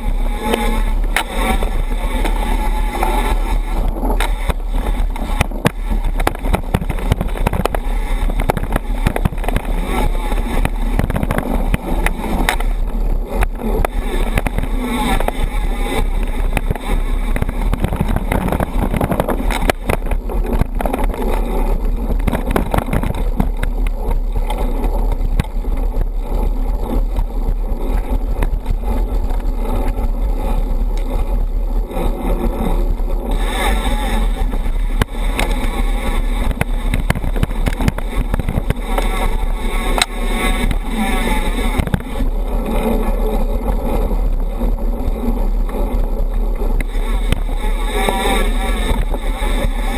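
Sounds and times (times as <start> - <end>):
bike rattles and knocks: 0.0 - 49.9
knobby tyres rolling on dirt: 0.0 - 49.9
wind rumble on microphone: 0.0 - 49.9.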